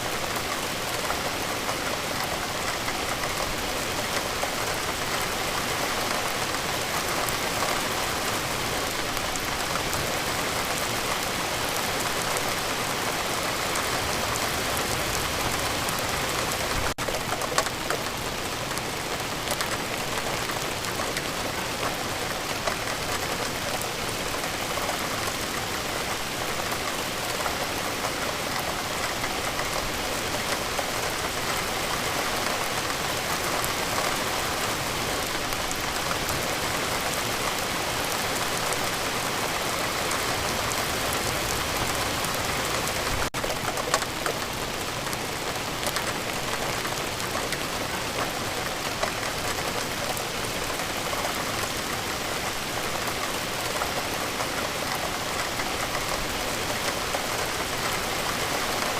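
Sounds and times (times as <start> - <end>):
individual raindrops: 0.0 - 58.9
rain falling: 0.0 - 58.9.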